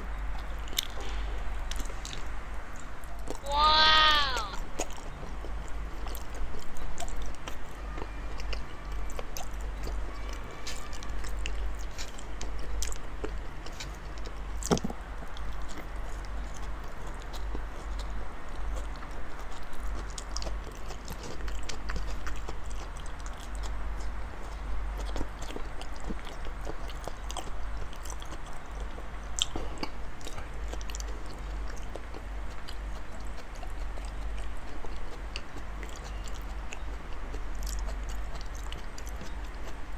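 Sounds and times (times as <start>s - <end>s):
person chewing wetly: 0.3s - 1.0s, 1.7s - 39.9s.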